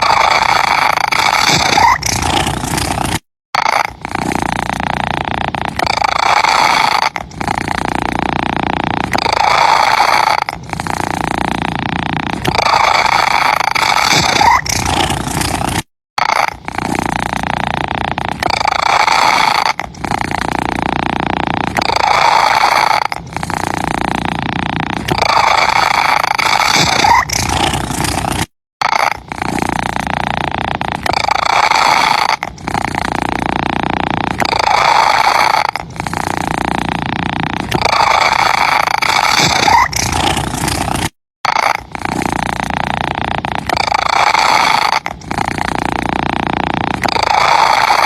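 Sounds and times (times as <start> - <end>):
cat purring: 0.0 - 48.0.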